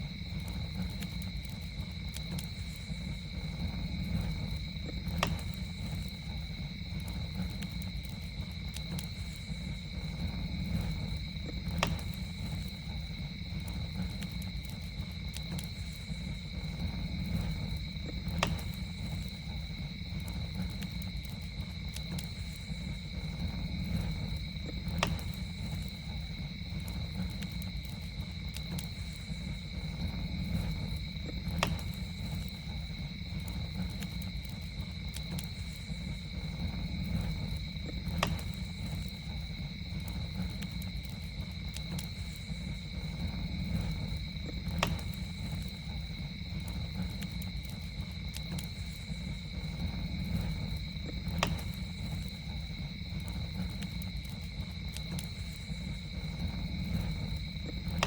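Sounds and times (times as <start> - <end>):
campfire crackling and popping: 0.0 - 58.0
night insects droning: 0.0 - 58.0.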